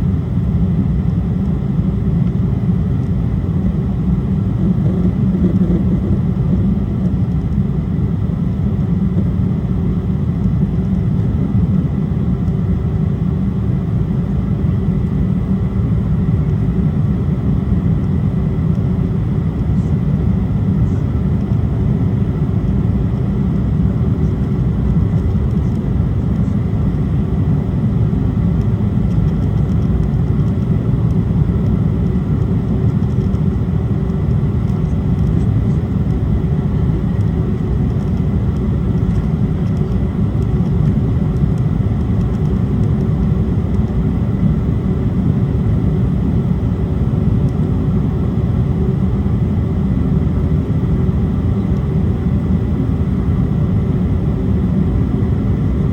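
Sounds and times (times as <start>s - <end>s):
faint high whine: 0.0s - 55.9s
jet engine cabin rumble: 0.0s - 55.9s.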